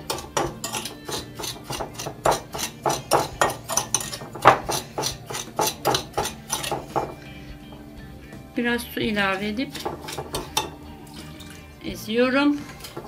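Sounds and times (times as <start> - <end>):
metal spoon scraping glass bowl: 0.0 - 7.8, 9.3 - 11.7, 12.5 - 13.0.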